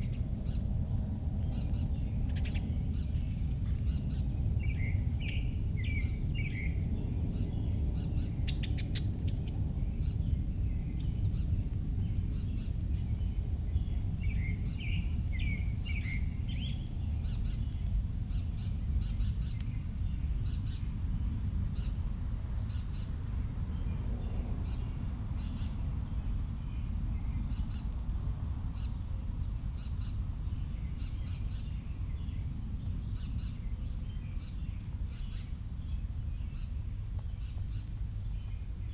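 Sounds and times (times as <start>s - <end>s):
small birds twittering: 0.0s - 38.9s
steady low rumble: 0.0s - 38.9s.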